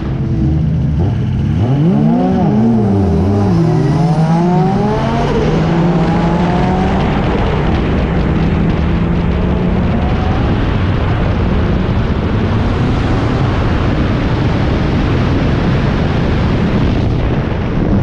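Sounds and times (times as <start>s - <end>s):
exhaust and wind rush: 0.0s - 18.0s
race car engine running hard: 0.0s - 18.0s.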